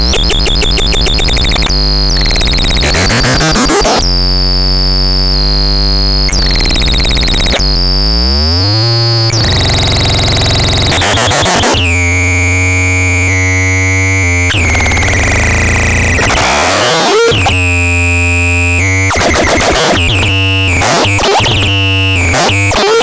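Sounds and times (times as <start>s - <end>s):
synthesizer tones: 0.0s - 23.0s.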